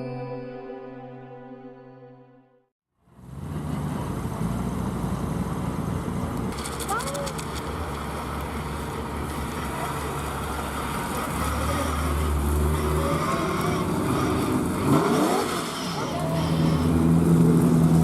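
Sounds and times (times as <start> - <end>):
car engine running: 3.0 - 18.0.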